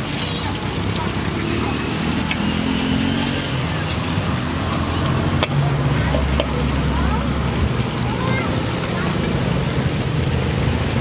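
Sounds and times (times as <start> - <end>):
hot oil sizzling and bubbling: 0.0 - 11.0.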